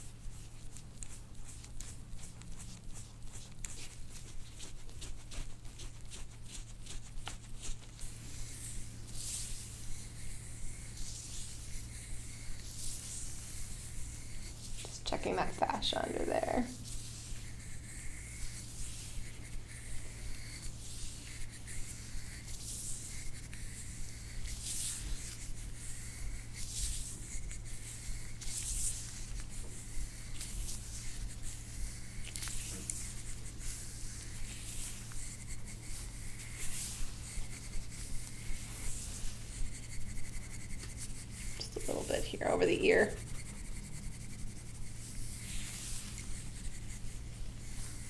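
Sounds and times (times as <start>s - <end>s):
steady low hum: 0.0s - 48.0s
hands rubbing skin: 0.1s - 48.0s.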